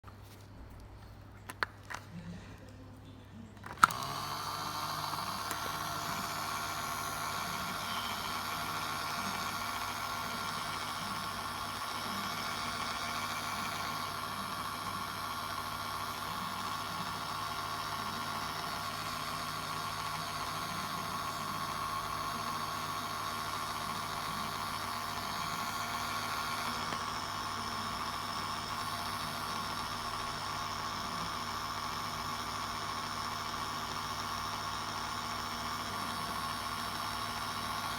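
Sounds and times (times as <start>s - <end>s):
small motor whirring: 3.6s - 37.9s.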